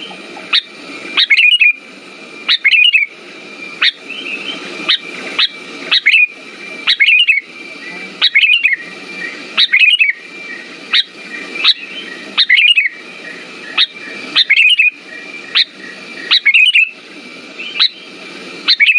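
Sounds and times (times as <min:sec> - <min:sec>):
bulbul calling: 0:00.0 - 0:01.8, 0:02.4 - 0:18.9.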